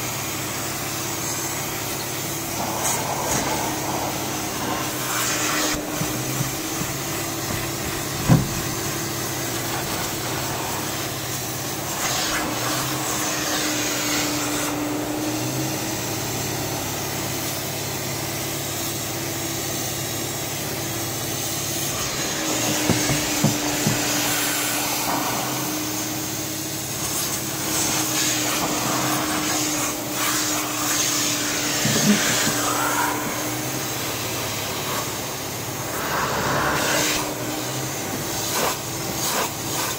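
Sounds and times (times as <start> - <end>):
vacuum motor running: 0.0 - 39.9
suction hissing through fabric: 2.4 - 16.0, 21.4 - 39.9.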